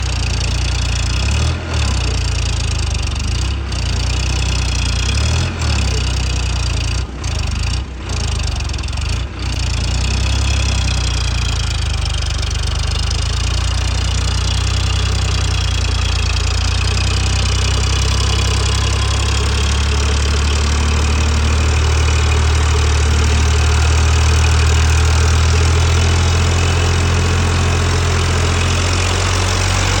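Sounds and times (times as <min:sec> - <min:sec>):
tractor diesel engine drone: 0:00.0 - 0:30.0.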